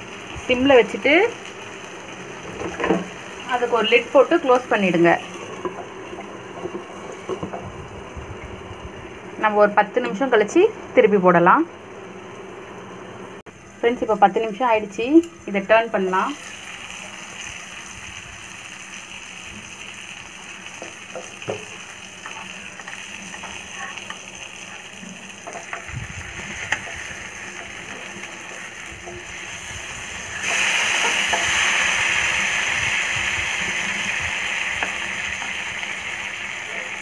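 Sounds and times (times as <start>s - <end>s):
chicken sizzling in a pan: 0.0s - 9.4s, 11.8s - 37.0s.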